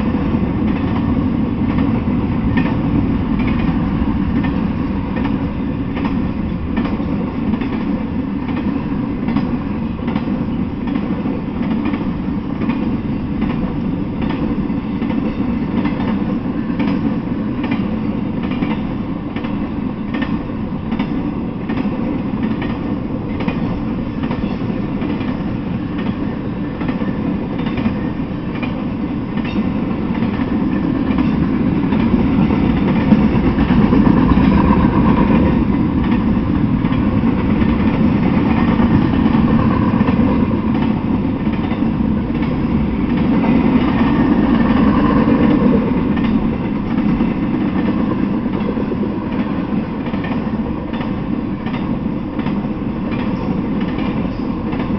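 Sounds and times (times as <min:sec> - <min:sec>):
train wheels rumbling on rail: 0:00.0 - 0:54.9
clicking over rail joints: 0:00.6 - 0:54.9.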